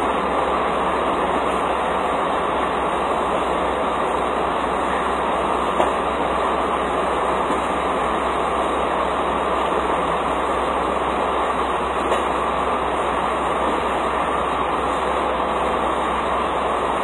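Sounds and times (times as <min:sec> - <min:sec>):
diesel machinery drone: 0:00.0 - 0:17.0.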